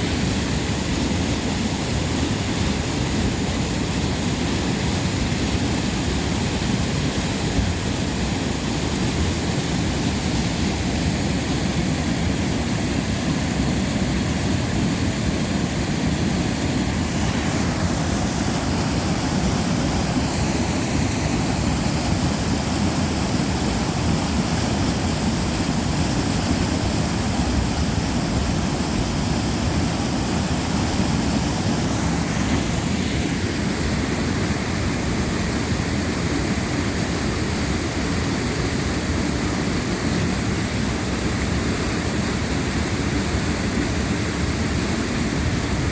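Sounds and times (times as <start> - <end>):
waterfall and river rushing: 0.0 - 45.9.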